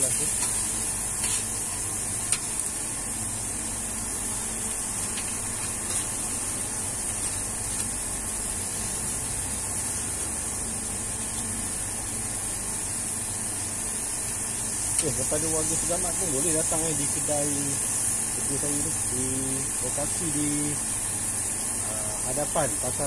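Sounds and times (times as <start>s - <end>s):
food sizzling on a griddle: 0.0s - 23.0s.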